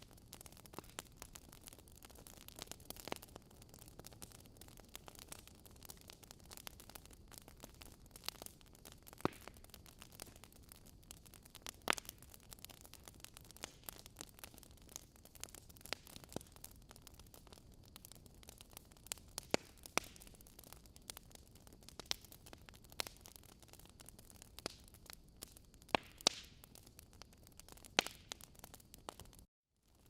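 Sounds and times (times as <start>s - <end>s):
faint fire hiss: 0.0s - 29.4s
logs crackling in fireplace: 0.0s - 29.5s.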